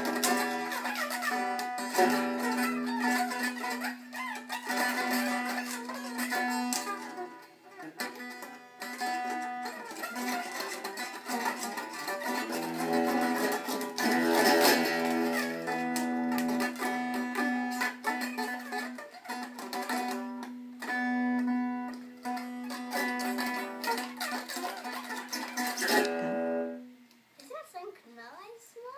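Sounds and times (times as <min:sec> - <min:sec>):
electric guitar strums and notes: 0:00.0 - 0:27.1.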